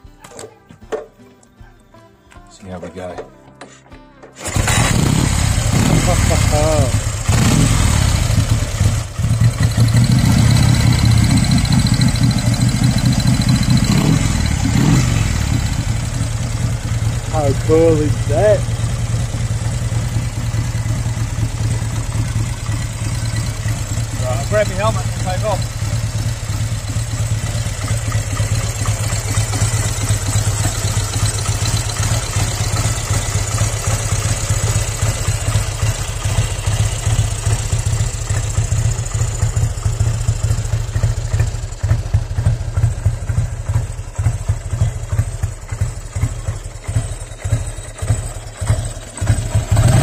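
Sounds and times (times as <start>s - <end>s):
motorcycle engine idling: 4.4s - 50.0s.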